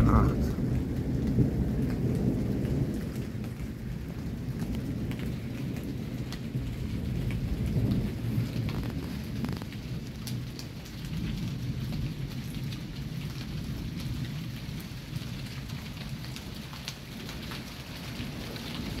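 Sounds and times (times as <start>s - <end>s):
low rolling thunder: 0.0s - 19.0s
steady rain falling: 0.0s - 19.0s.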